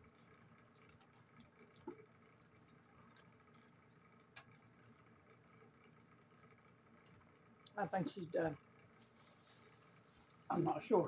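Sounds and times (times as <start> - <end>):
quiet chewing: 0.0 - 7.8, 8.6 - 10.6.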